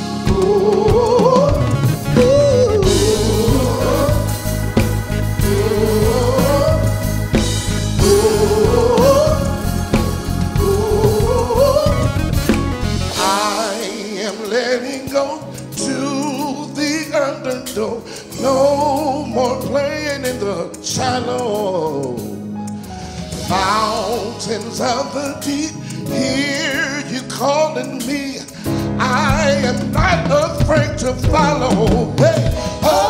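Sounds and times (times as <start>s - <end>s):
gospel song with singing: 0.0s - 33.0s.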